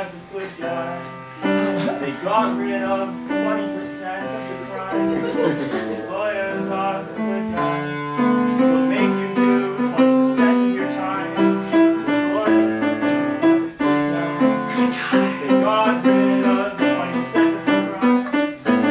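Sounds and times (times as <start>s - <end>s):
piano playing chords: 0.0s - 18.9s.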